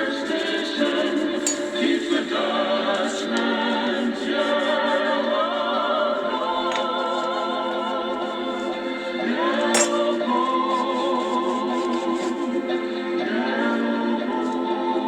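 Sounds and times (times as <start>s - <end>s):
choir-like voices on radio: 0.0s - 15.0s.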